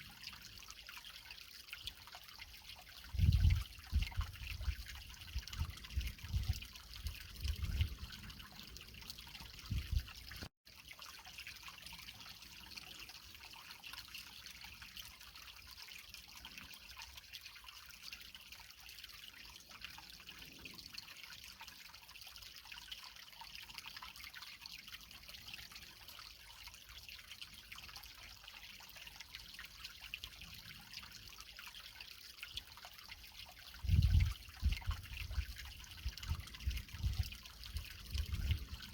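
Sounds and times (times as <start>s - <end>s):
creek trickling over rocks: 0.0s - 38.9s.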